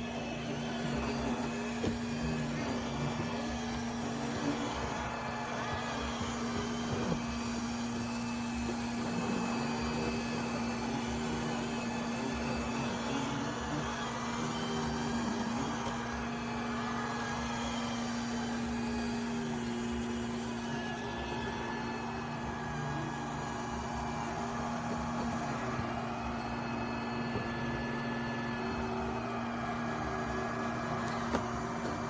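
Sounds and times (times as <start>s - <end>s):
robot vacuum running: 0.0s - 32.0s.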